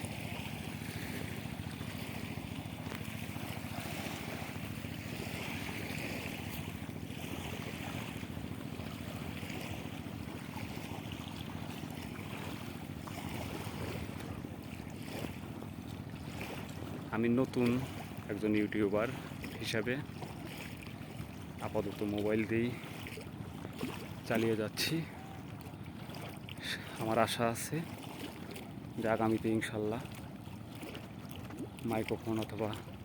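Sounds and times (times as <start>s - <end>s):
wind: 0.0s - 33.0s.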